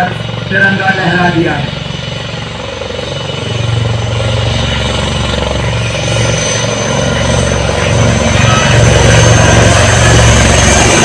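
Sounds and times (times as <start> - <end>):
helicopter rotors beating: 0.0 - 11.0.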